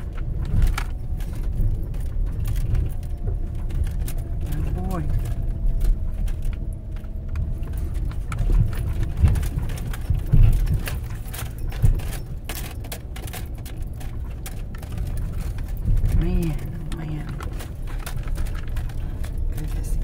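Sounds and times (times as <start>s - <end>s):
car knocking and rattling over bumps: 0.0s - 20.0s
tyres and suspension rumbling: 0.0s - 20.0s.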